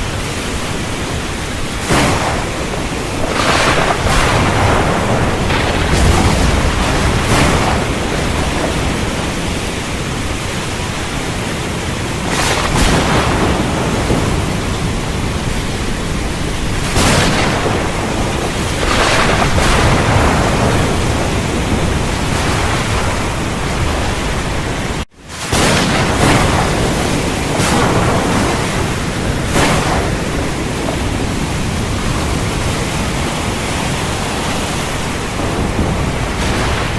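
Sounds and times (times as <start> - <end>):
heavy rain pouring: 0.0 - 36.9
rolling thunder: 0.0 - 36.9.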